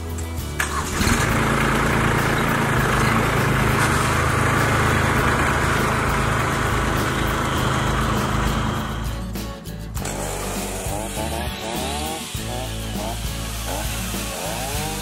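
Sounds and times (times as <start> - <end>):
tractor diesel engine revving: 0.2 - 15.0.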